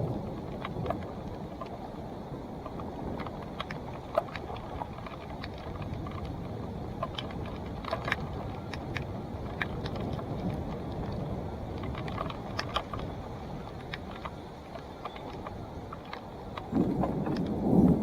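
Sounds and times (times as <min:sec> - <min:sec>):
bike tyres rumbling on trail: 0:00.0 - 0:18.0
bike clicks and rattles: 0:02.6 - 0:18.0.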